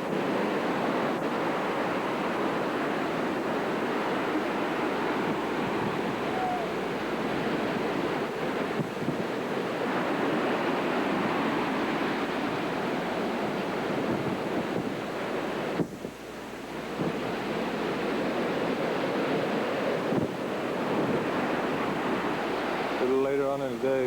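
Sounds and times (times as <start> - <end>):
heavy surf: 0.0 - 24.0
wind buffeting microphone: 0.0 - 24.0.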